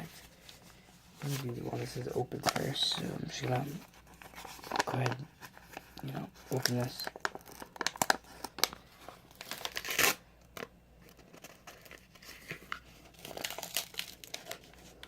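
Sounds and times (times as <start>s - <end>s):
packaging crinkling: 0.0s - 15.0s
packaging ripping: 1.2s - 15.0s.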